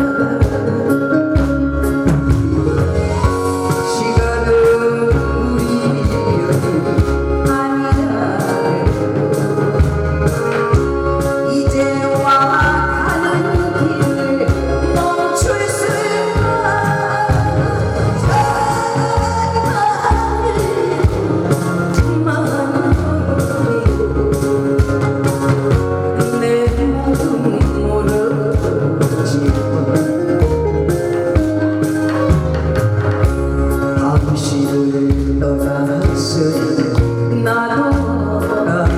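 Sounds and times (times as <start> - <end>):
woman singing into a microphone: 0.0 - 32.3, 33.7 - 38.9
amplified drum and bass beat: 0.0 - 38.9.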